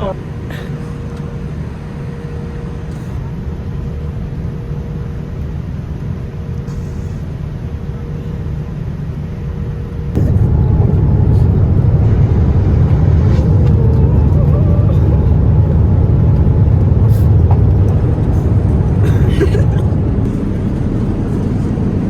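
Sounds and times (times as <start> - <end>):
jet rumble in cabin: 0.0 - 22.0.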